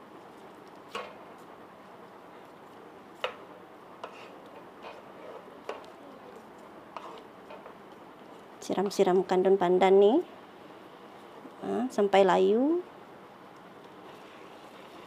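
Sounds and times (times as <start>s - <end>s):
faint simmering: 0.0s - 12.1s, 12.8s - 15.0s.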